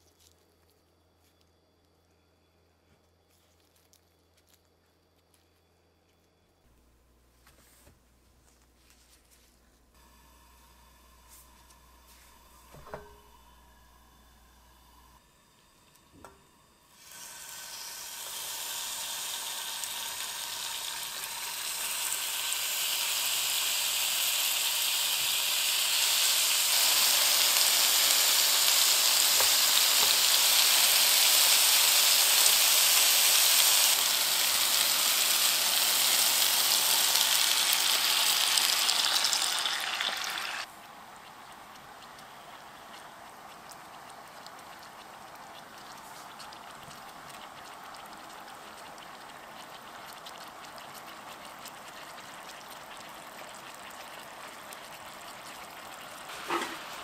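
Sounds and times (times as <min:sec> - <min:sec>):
chicken sizzling in hot oil: 0:09.9 - 0:57.0.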